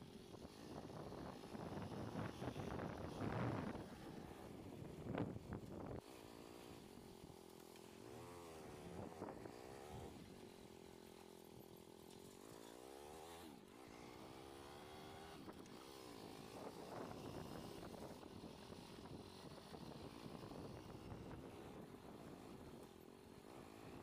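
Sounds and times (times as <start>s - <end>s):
motorcycle engine revving: 0.3s - 11.4s, 12.1s - 24.0s.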